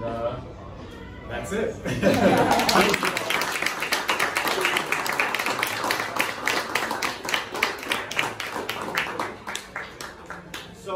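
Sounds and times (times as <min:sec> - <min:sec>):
small group applauding: 0:02.0 - 0:10.9.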